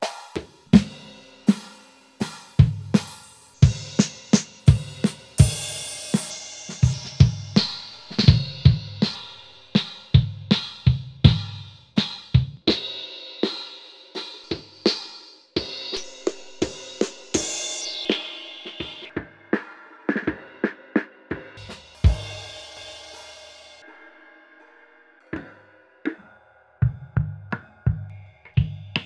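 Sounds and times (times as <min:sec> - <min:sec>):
drum kit playing: 0:00.0 - 0:23.8.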